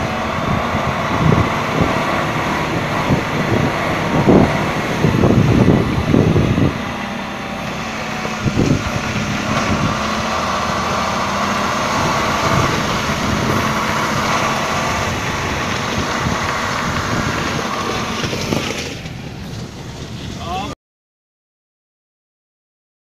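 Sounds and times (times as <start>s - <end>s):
diesel engine idling: 0.0s - 20.7s.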